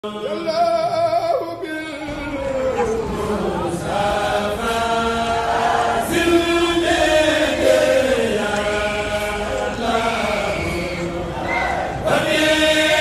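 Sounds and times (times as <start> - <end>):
voices chanting together: 0.0 - 13.0.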